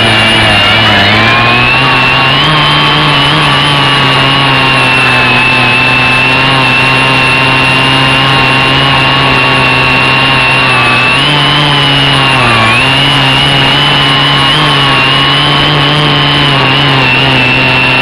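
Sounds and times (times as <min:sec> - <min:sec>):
quadcopter propellers whirring: 0:00.0 - 0:18.0.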